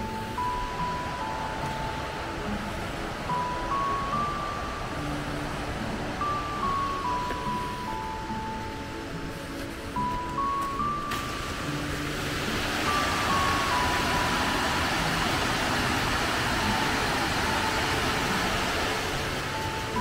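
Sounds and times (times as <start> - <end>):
soft background music: 0.0 - 20.0
stream rushing over rocks: 0.0 - 20.0.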